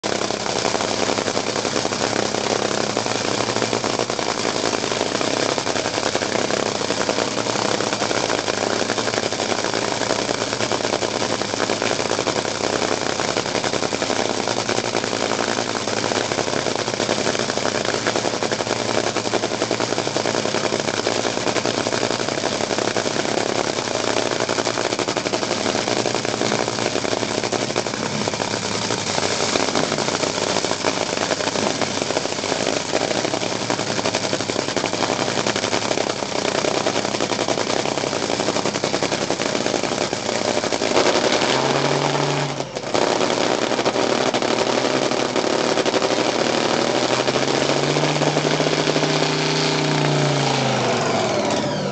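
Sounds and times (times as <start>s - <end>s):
drag racing engine crackling: 0.0s - 51.9s.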